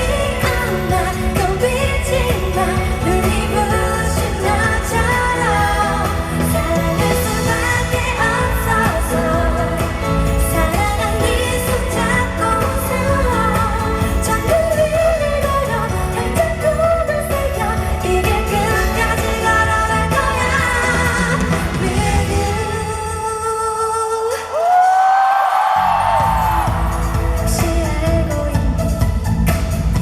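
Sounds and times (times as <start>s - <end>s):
live band playing: 0.0s - 23.0s, 25.9s - 30.0s
woman singing: 0.0s - 30.0s.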